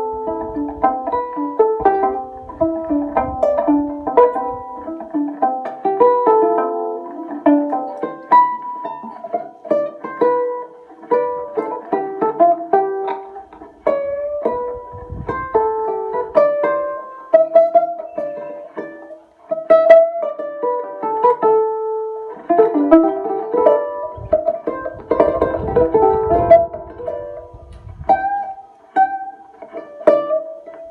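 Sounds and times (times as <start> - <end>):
plucked string instrument notes: 0.0 - 30.9.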